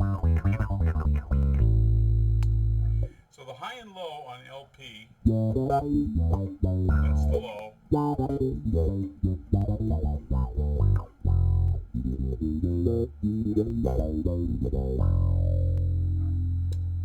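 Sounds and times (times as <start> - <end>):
filtered electric bass notes: 0.0 - 3.1, 5.2 - 17.0.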